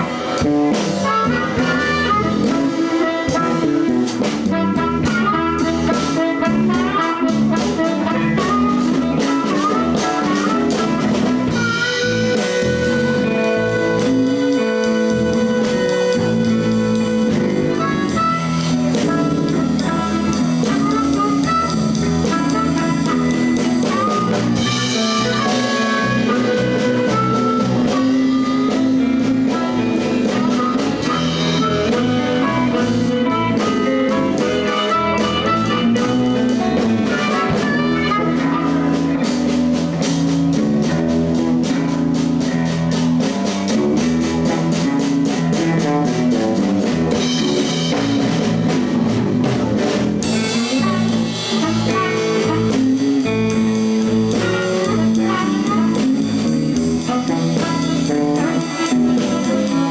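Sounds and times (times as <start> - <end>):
bass: 0.0 - 59.9
drum kit: 0.0 - 59.9
electric guitar: 0.0 - 59.9.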